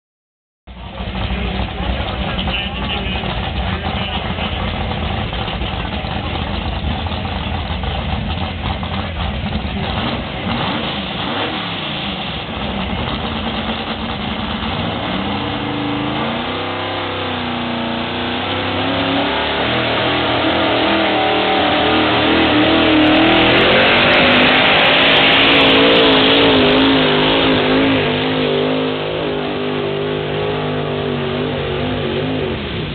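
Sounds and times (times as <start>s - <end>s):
truck engine under heavy load: 0.7s - 32.9s.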